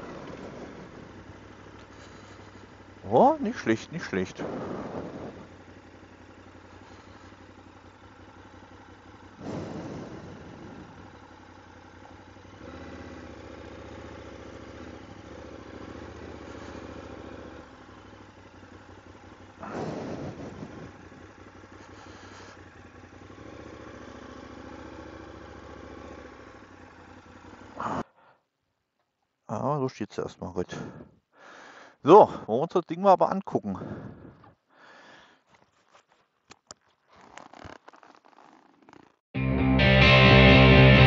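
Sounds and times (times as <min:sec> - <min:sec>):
motorcycle engine at low revs: 0:00.0 - 0:29.4, 0:30.6 - 0:32.9, 0:33.6 - 0:41.0.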